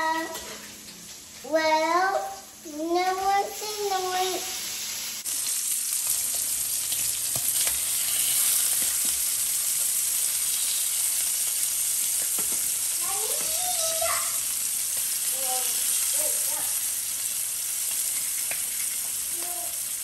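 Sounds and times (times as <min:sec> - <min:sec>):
bacon sizzling and popping: 0:00.0 - 0:20.0.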